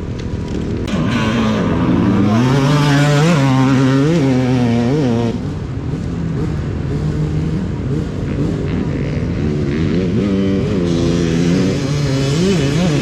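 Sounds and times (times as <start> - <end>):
dirt bike engine revving: 0.9 - 13.0.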